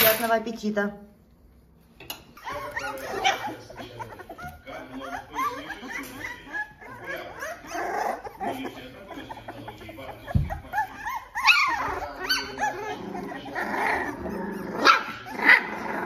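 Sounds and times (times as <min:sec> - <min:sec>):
puppies whimpering and squealing: 0:02.1 - 0:16.0.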